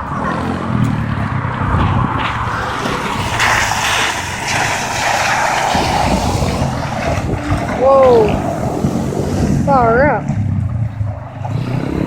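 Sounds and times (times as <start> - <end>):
broad rushing noise: 0.0 - 12.0
vehicle engine passing: 0.0 - 12.0.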